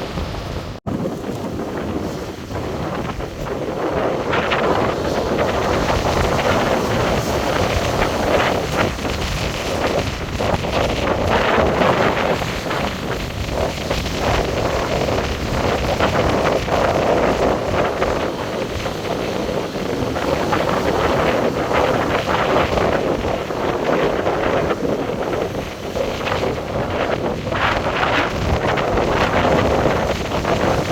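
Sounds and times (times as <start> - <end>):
heavy surf breaking: 0.0 - 30.9
wind buffeting microphone: 0.0 - 30.9.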